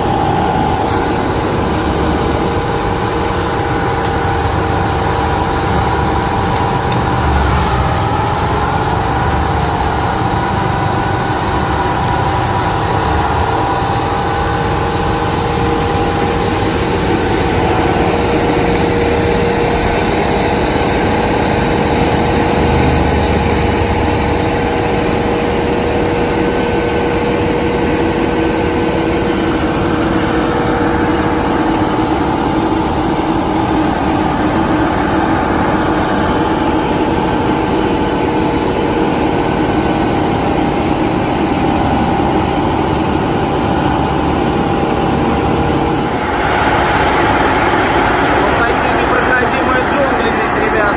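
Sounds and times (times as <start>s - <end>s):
constant whine: 0.0s - 50.9s
forestry mulcher engine running: 0.0s - 50.9s.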